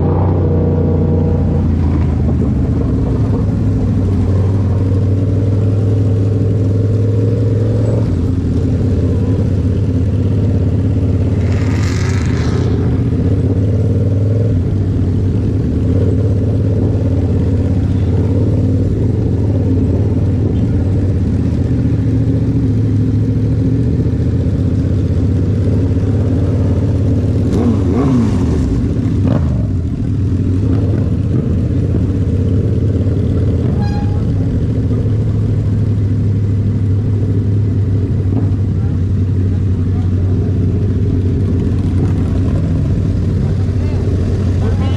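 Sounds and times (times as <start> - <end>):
motorcycle engine running steadily: 0.0 - 44.9.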